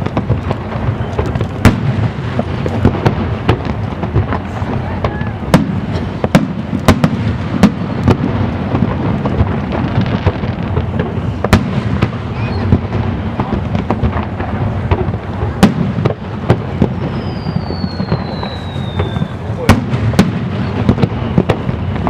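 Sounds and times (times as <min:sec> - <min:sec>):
falling firework whistle: 0:00.0 - 0:14.3, 0:15.0 - 0:22.0
rumble of fireworks bursts: 0:00.0 - 0:22.0
sharp cracking fireworks reports: 0:00.0 - 0:22.0.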